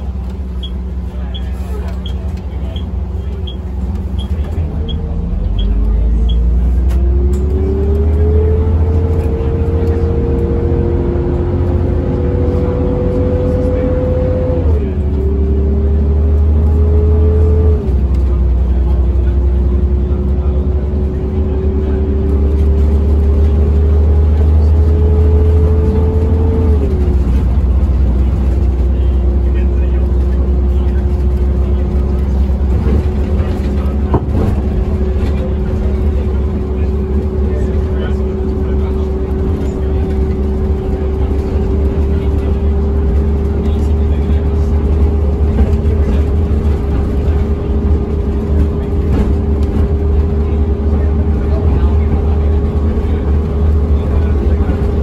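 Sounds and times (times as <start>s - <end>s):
bus drivetrain whine: 0.0s - 55.0s
bus engine rumble: 0.0s - 55.0s.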